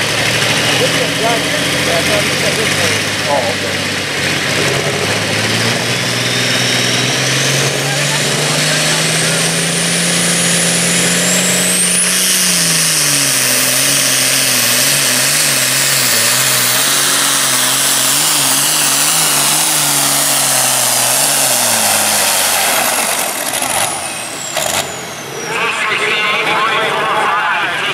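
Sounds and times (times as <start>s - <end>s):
diesel engine running under load: 0.0s - 27.9s.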